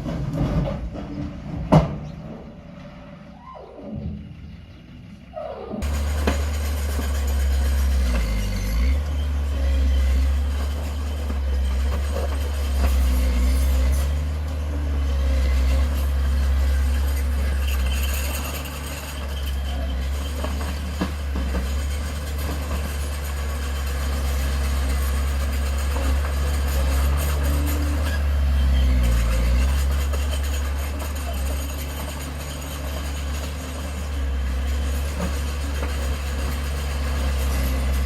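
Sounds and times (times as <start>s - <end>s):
diesel engine rumbling: 0.0s - 38.0s.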